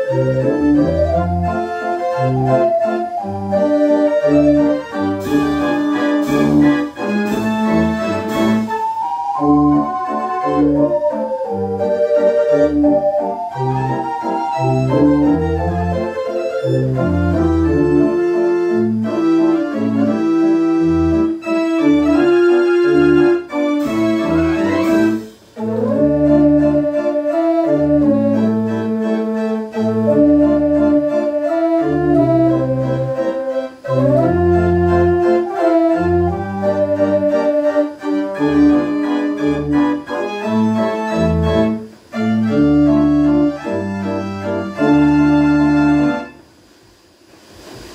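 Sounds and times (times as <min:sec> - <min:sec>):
pipe organ playing a tune: 0:00.0 - 0:46.4.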